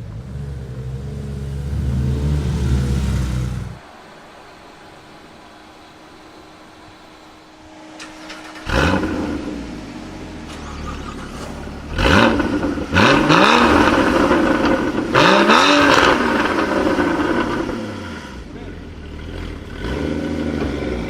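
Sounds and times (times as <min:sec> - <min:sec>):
car engine revving hard: 0:00.0 - 0:04.6, 0:07.6 - 0:21.0
sports car engine idling: 0:00.0 - 0:21.0.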